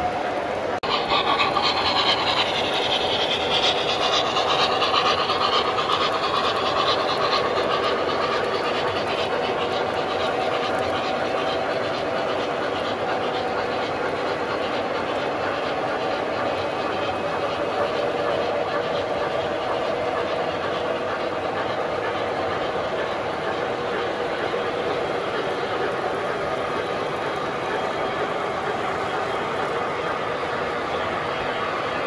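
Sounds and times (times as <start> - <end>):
hissing whine: 0.0 - 32.0
model train wheels rumbling on rail: 0.0 - 32.0.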